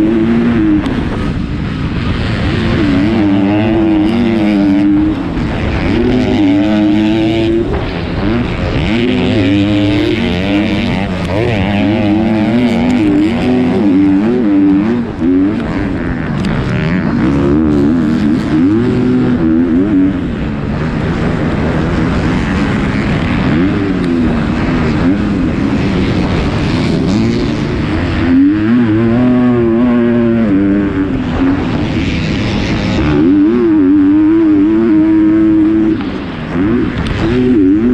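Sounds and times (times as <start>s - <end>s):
motocross bike engine revving: 0.0s - 37.9s
wind rush and track noise: 0.0s - 37.9s.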